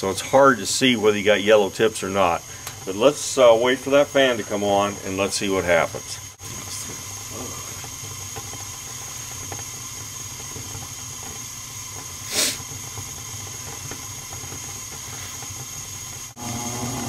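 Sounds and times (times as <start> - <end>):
furnace burner flames hissing: 0.0 - 17.0.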